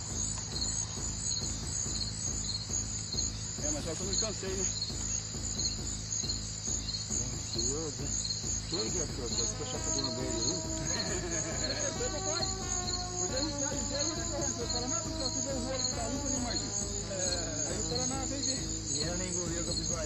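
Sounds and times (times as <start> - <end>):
constant low hum: 0.0 - 20.0
insects chirping: 0.0 - 20.0.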